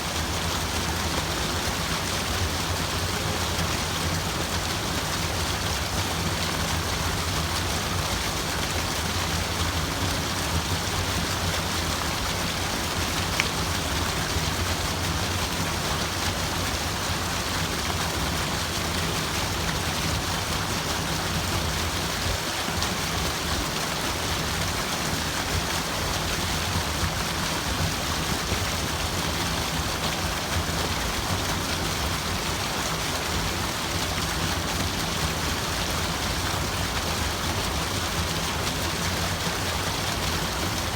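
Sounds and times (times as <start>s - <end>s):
running water splashing: 0.0s - 40.9s.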